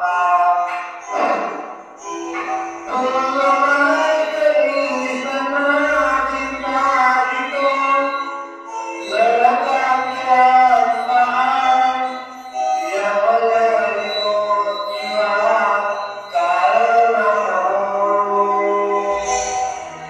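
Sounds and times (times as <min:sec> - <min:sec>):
instrumental backing: 0:00.0 - 0:20.0
person singing: 0:00.0 - 0:20.0.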